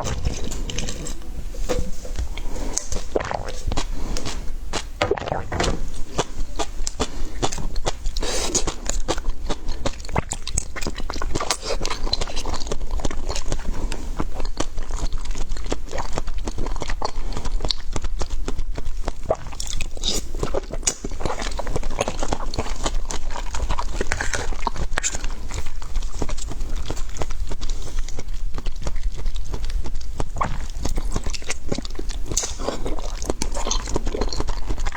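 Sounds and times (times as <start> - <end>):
person chewing crunchy food: 0.0 - 34.9.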